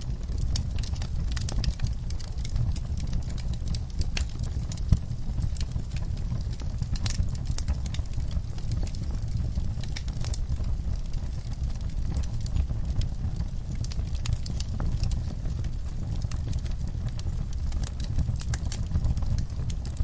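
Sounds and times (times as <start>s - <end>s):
wood fire crackling in fireplace: 0.0s - 20.0s.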